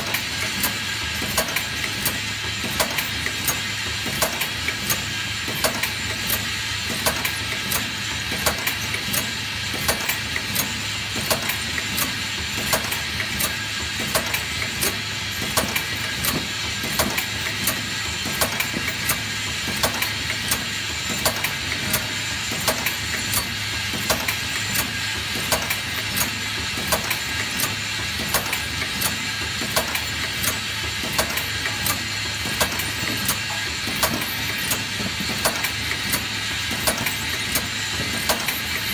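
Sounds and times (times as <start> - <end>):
machine motor hum and hiss: 0.0 - 38.9
sharp machine clicking: 0.0 - 38.9.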